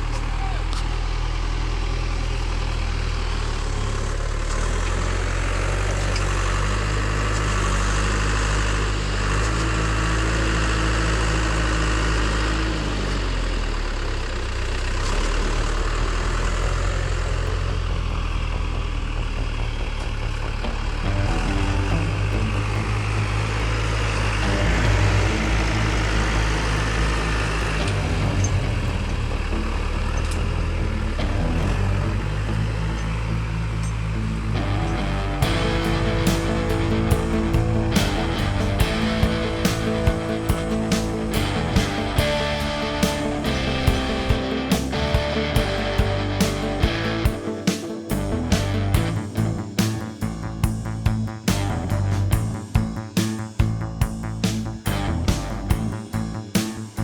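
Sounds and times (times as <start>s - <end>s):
low-pitched engine running: 0.0s - 57.0s.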